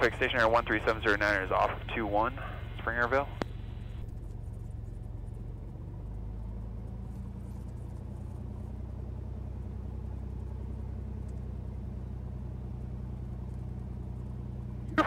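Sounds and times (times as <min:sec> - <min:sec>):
airplane engine and propeller running: 0:00.0 - 0:15.0.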